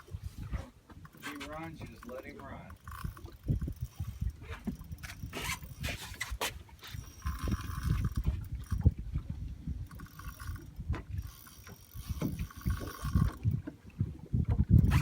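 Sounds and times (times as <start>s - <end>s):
fishing reel whirring: 0.0s - 8.9s, 9.8s - 13.5s.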